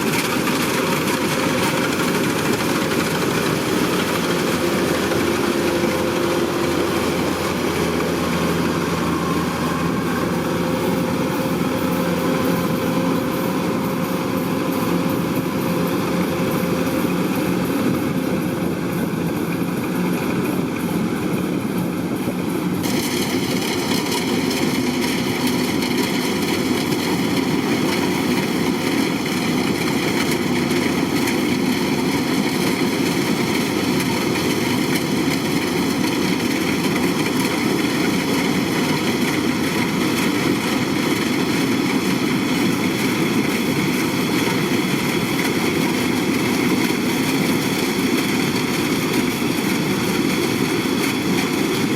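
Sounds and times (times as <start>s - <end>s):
combine harvester engine running: 0.0s - 51.9s
high steady whining tones: 0.0s - 51.9s.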